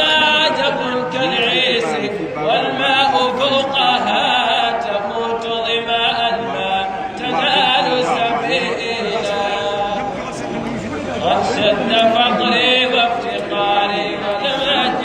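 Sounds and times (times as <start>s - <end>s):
man chanting into microphone: 0.0s - 10.4s, 11.2s - 15.0s.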